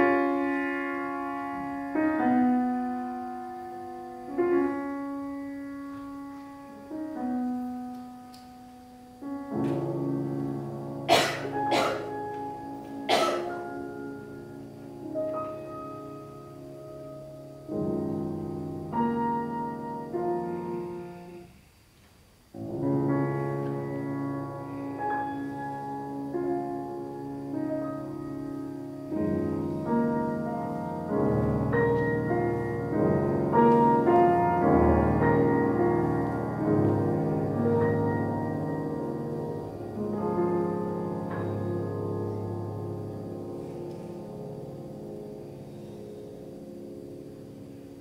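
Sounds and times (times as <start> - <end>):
solo piano playing: 0.0 - 21.7, 22.4 - 48.0.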